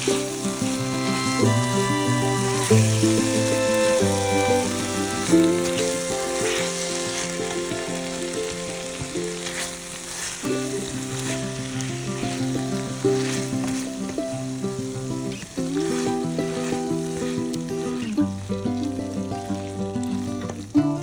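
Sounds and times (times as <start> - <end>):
pork sizzling in a pan: 0.0 - 21.0
stirring in a pan: 0.0 - 21.0.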